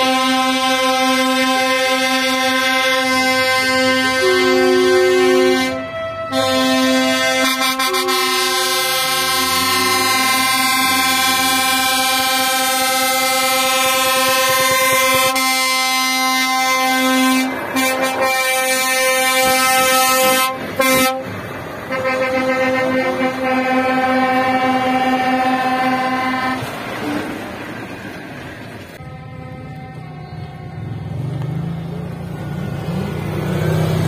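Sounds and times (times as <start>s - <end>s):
truck air horn blasts: 0.0s - 26.8s, 29.0s - 31.2s.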